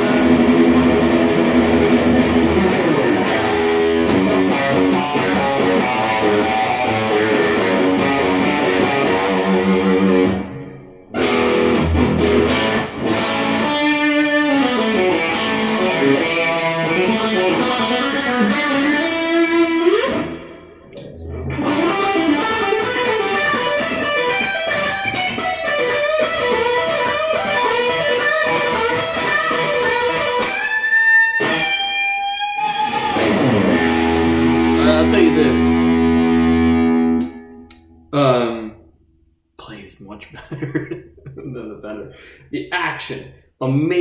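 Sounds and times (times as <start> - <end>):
electric guitar picked notes: 0.0 - 38.6.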